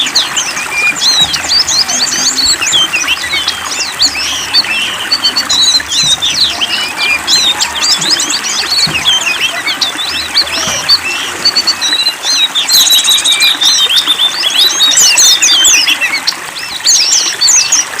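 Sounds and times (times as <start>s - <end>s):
songbirds chirping and twittering: 0.0s - 18.0s.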